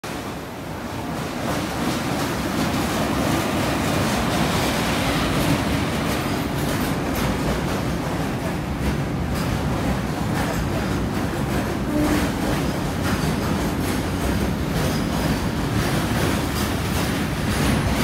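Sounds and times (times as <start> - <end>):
train wheels rumbling and rattling: 0.1 - 18.0.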